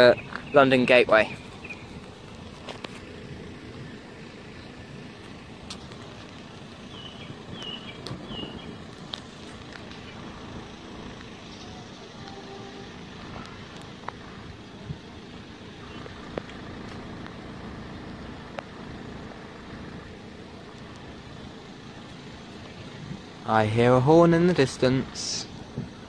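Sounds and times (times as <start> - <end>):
road traffic with cars idling: 0.0 - 26.0.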